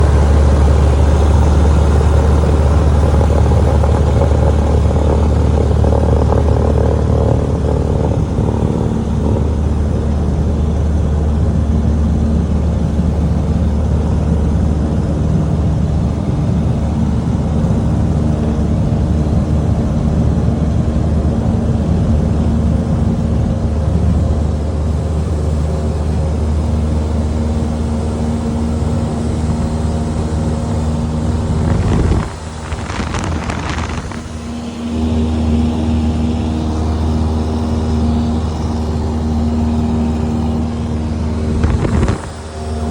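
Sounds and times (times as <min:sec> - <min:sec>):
light aircraft engine drone: 0:00.0 - 0:42.9.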